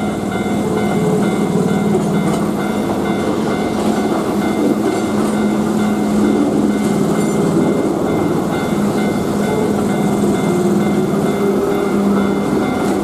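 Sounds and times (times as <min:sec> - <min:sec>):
electric train passing: 0:00.0 - 0:13.0
level crossing warning bell: 0:00.0 - 0:13.0.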